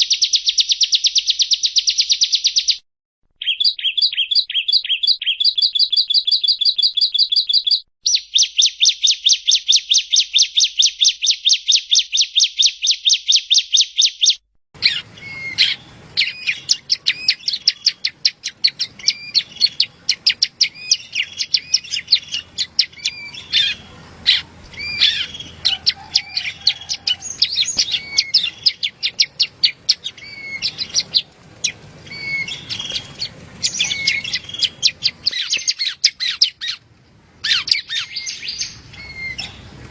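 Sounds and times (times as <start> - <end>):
bird chirps and whistles: 0.0 - 2.8, 3.4 - 36.8, 37.4 - 39.6
bird rapid trill of chirps: 0.0 - 2.8, 3.4 - 36.8.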